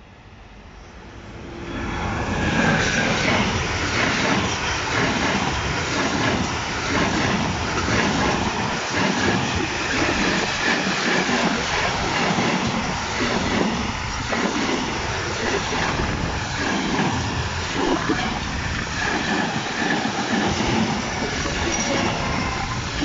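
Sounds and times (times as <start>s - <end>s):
freight train passing: 0.0s - 23.0s
wheels clattering on rails: 1.9s - 23.0s.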